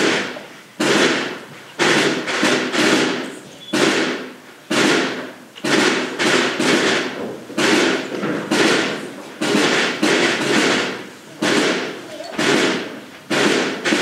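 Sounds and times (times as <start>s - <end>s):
drum beaten with echo: 0.0s - 14.0s.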